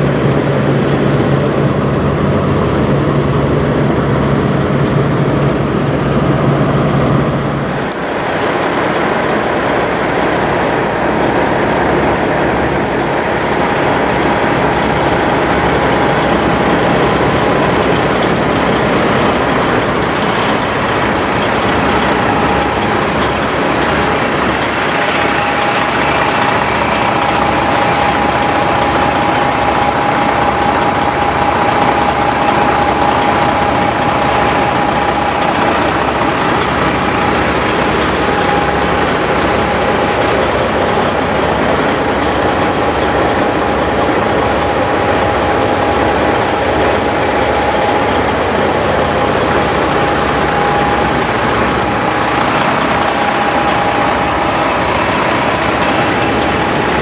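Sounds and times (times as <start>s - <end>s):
diesel truck engines idling: 0.0s - 57.0s
steady high whine: 0.0s - 57.0s.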